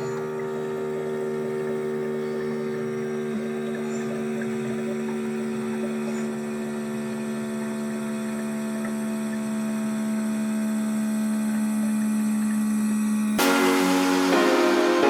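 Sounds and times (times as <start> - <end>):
coffee maker pump humming: 0.0 - 13.4.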